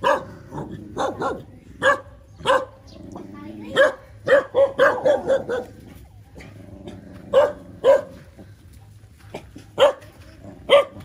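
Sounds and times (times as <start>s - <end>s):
dogs barking: 0.0s - 8.6s, 9.3s - 11.0s.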